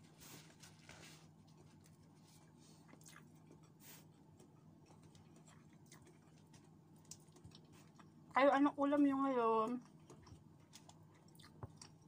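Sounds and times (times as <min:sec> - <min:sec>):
person chewing: 0:00.4 - 0:08.4, 0:09.8 - 0:12.0.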